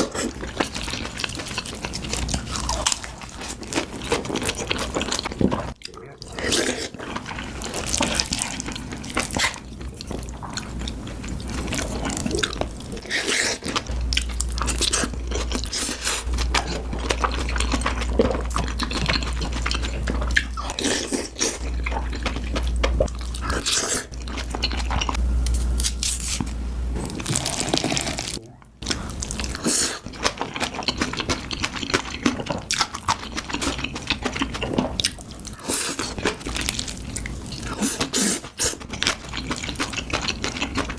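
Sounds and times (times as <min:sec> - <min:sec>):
low steady hum: 0:00.0 - 0:38.0
person chewing crunchy food: 0:00.0 - 0:40.9.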